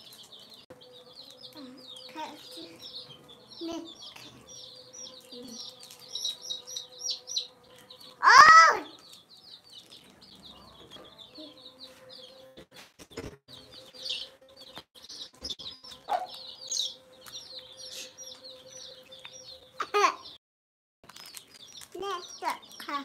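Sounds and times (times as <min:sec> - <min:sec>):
chicks peeping: 0:00.0 - 0:20.4, 0:21.1 - 0:23.0.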